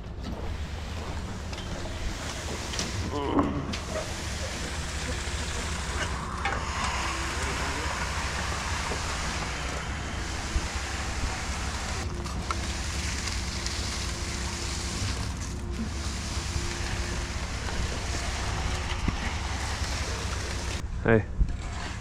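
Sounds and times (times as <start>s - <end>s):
pump truck engine rumble: 0.0s - 22.0s
rushing hiss: 1.1s - 12.0s, 12.7s - 20.8s.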